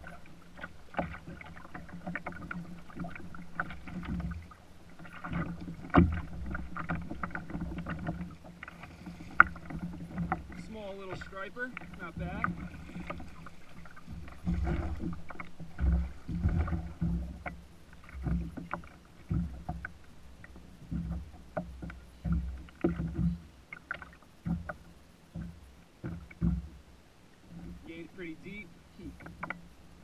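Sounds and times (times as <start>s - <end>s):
water splashes: 0.0s - 30.0s.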